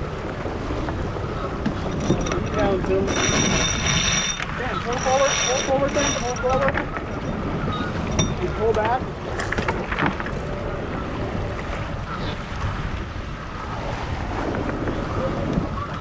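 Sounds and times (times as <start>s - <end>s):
water rushing past hull: 0.0s - 16.0s
wind buffeting microphone: 0.0s - 16.0s.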